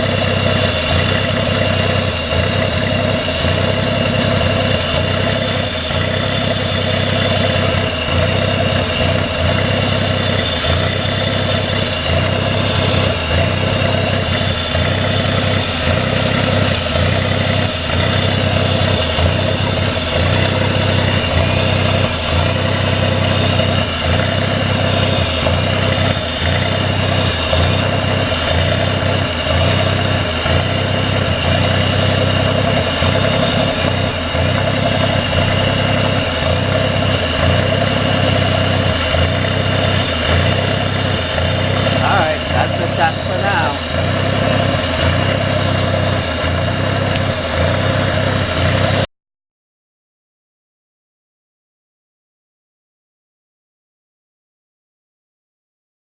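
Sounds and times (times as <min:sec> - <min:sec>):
car engine idling unevenly: 0:00.0 - 0:49.0.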